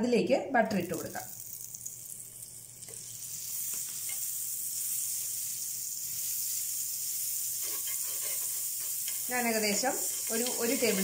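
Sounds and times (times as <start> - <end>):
butter sizzling on griddle: 1.0 - 11.0.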